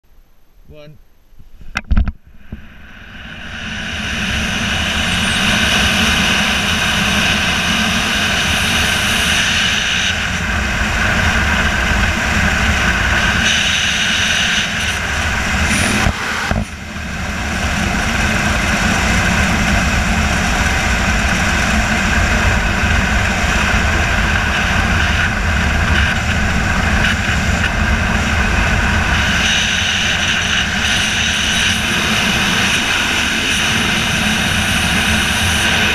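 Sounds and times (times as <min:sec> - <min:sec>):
wind roaring over microphone: 0:01.5 - 0:35.9.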